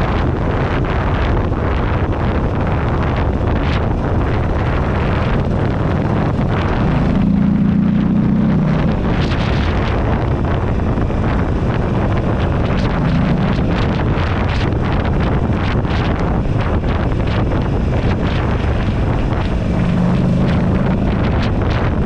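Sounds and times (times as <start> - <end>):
motorcycle engine: 0.0 - 22.0
wind buffeting microphone: 0.0 - 22.0.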